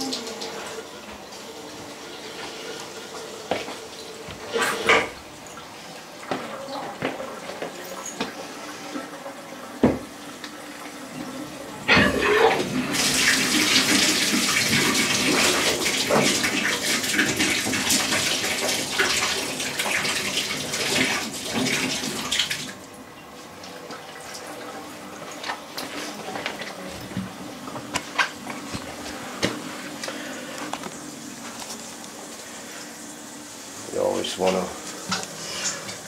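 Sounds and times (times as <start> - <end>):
water rushing through plumbing: 0.0 - 36.0.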